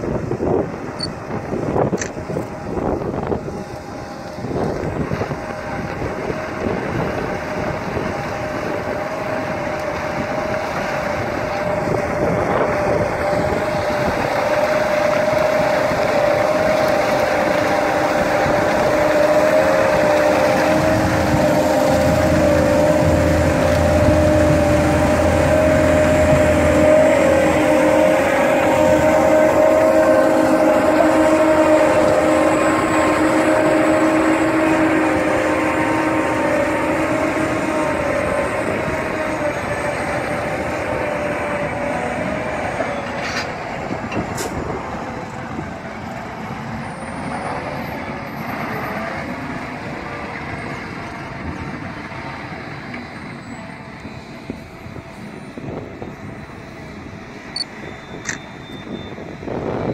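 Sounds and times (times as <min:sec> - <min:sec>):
harvester machinery drone: 0:00.0 - 0:59.9
machinery whine: 0:00.0 - 0:59.9.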